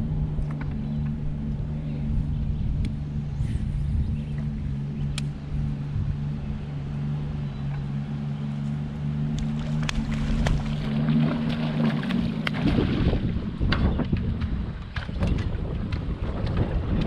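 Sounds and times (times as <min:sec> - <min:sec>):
wind buffeting microphone: 0:00.0 - 0:07.7, 0:09.2 - 0:17.0
boat motor humming: 0:00.0 - 0:17.0.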